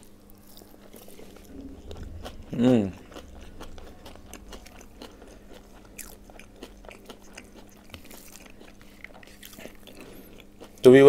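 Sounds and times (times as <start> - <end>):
man chewing: 0.0 - 11.0.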